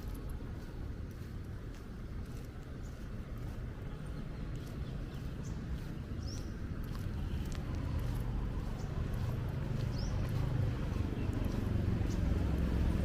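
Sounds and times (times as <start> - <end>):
footsteps on wet pavement: 0.0 - 13.0
traffic rumble: 0.0 - 13.0
bird chirping: 1.1 - 13.0.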